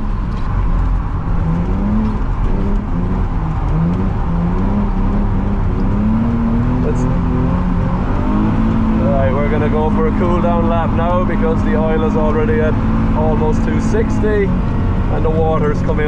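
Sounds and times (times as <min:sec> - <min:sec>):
car engine revving: 0:00.0 - 0:16.0
heavy low rumble: 0:00.0 - 0:16.0.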